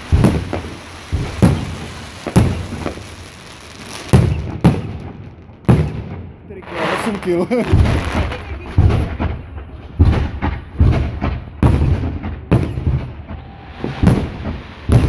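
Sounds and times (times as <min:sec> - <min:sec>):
fireworks bangs: 0:00.0 - 0:15.0
fireworks pops: 0:00.0 - 0:15.0.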